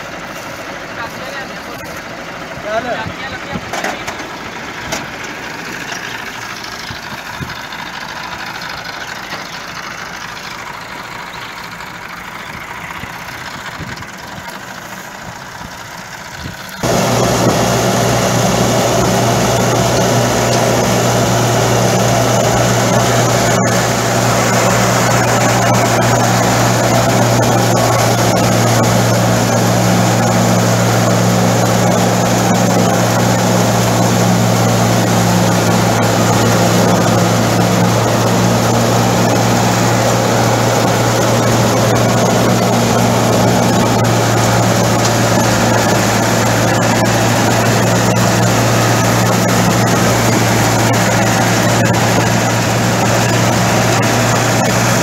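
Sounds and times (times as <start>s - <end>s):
tractor diesel engine: 0.0s - 55.0s
reaper machinery clattering: 0.2s - 55.0s.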